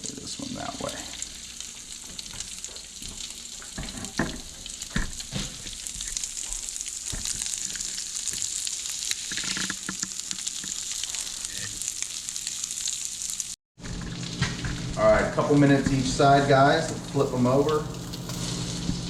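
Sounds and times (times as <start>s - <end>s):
fish fillets sizzling in a pan: 0.0s - 19.0s.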